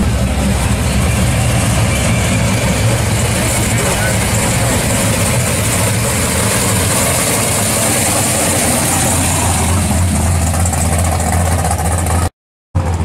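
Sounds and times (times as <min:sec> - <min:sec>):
car exhaust deep rumble: 0:00.0 - 0:13.0.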